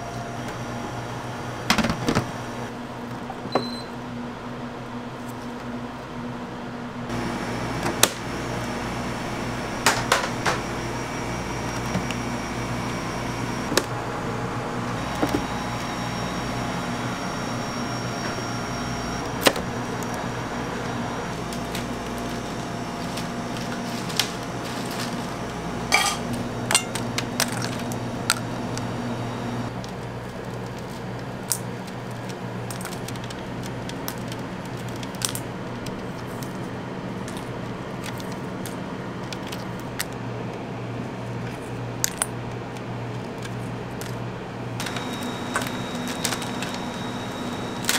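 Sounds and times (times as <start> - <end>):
mechanical hum: 0.0 - 47.9.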